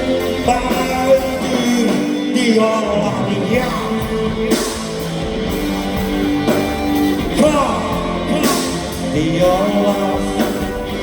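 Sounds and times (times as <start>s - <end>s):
person singing: 0.0s - 11.0s
rock band guitars: 0.0s - 11.0s.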